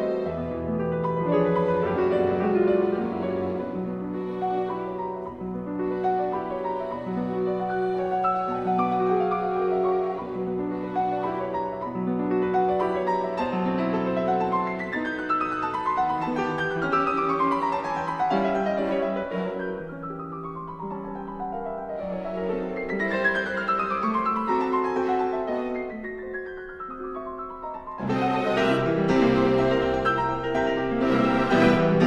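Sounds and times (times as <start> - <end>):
classical piano music: 0.0 - 32.0.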